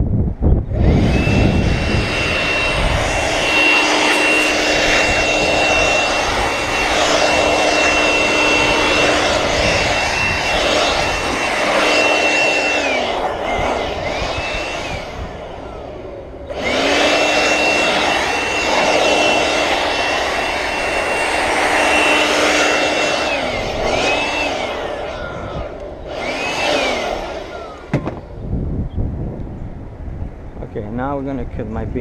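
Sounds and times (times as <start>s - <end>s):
electric power cutter motor: 0.7s - 28.4s.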